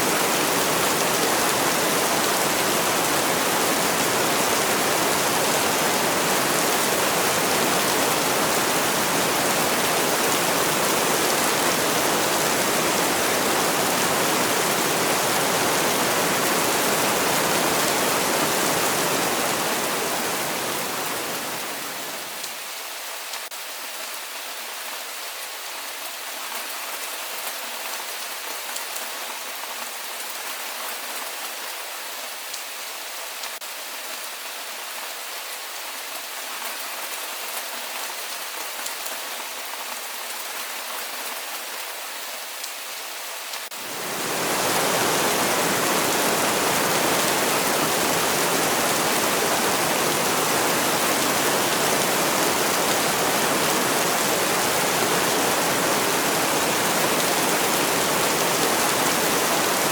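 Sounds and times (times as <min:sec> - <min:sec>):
heavy rain: 0:00.0 - 0:26.0, 0:37.4 - 0:59.9.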